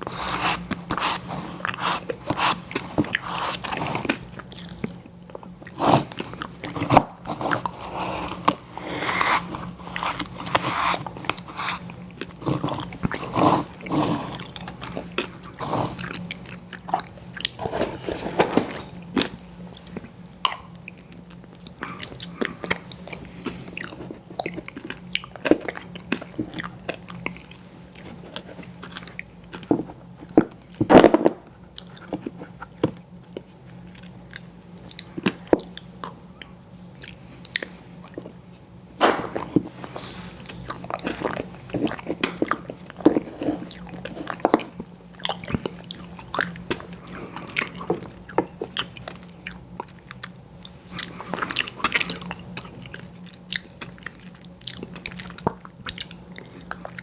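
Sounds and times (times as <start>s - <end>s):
wet chewing and smacking: 0.0s - 17.7s, 19.1s - 30.8s, 31.7s - 38.5s, 39.1s - 57.0s
faint steady hum: 0.0s - 57.0s.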